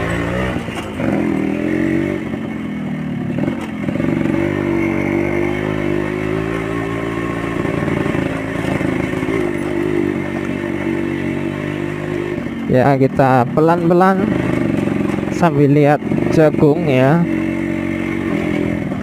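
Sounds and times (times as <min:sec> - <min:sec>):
motorcycle two-stroke engine running: 0:00.0 - 0:19.0.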